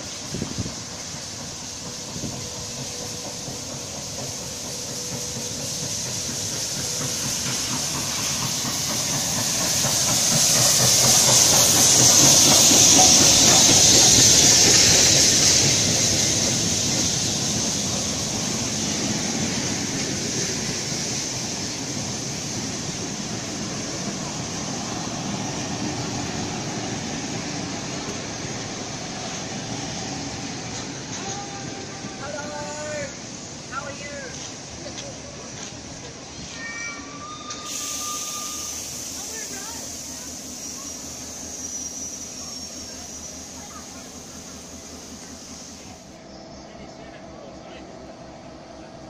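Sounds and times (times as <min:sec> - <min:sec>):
steam locomotive hiss: 0:00.0 - 0:49.0
train wheel noise: 0:00.0 - 0:49.0.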